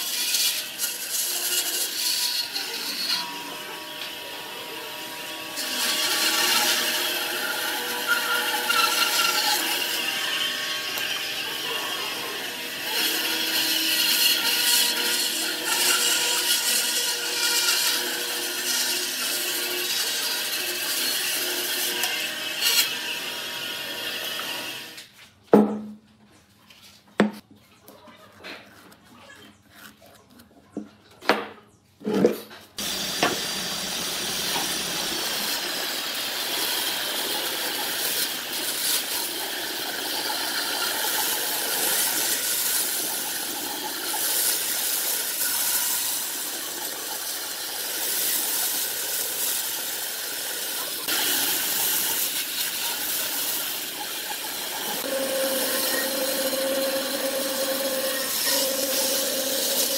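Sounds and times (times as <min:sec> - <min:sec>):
bandsaw cutting log: 0:00.0 - 0:25.0, 0:32.8 - 0:59.9.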